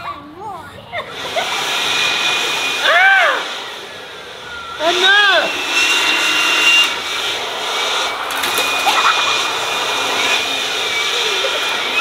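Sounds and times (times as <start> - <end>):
leaf blowers running: 0.3 - 12.0.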